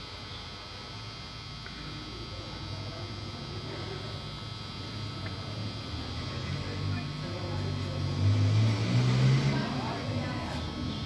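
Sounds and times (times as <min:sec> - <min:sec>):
low electrical hum and buzz: 0:00.0 - 0:11.0.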